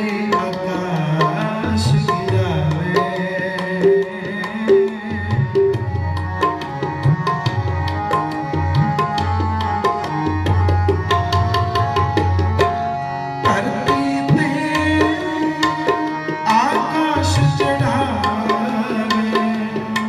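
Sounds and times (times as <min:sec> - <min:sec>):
harmonium notes: 0:00.0 - 0:20.0
tabla strokes: 0:00.0 - 0:20.0.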